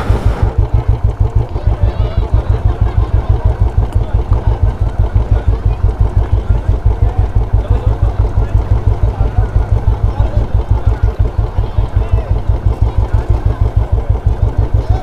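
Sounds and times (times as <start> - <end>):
motorcycle engine thumping: 0.0 - 15.0.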